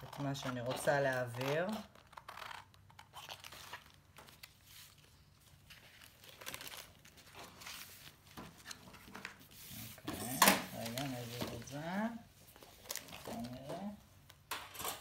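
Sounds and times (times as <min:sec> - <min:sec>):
paper rustling: 0:00.0 - 0:13.9.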